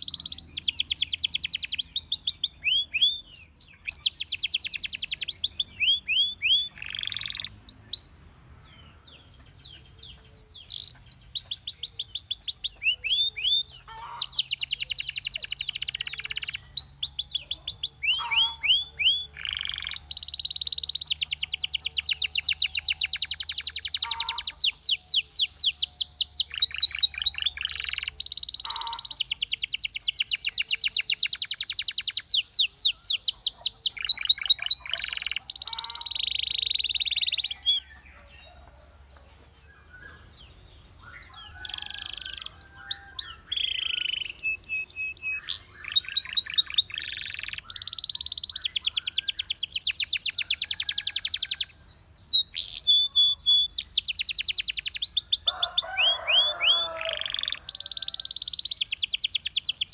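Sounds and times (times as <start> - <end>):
canary singing trills: 0.0 - 39.0, 39.6 - 59.9.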